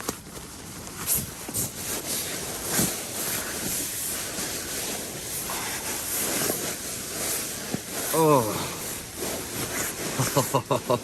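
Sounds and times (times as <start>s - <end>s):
rain on a tent: 0.0s - 11.0s
tent rustling from handling: 0.0s - 11.0s.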